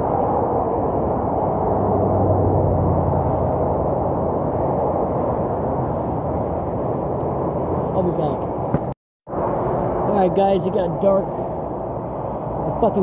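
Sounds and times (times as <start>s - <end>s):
highway traffic rumble: 0.0s - 13.0s
vehicle passing with low hum: 0.0s - 13.0s.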